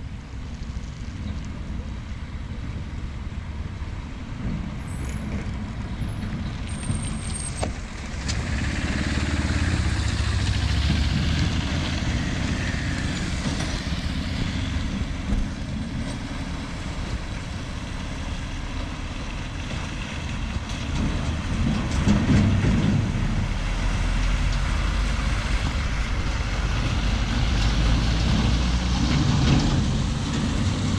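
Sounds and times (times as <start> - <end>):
traffic engine rumble: 0.0 - 30.9.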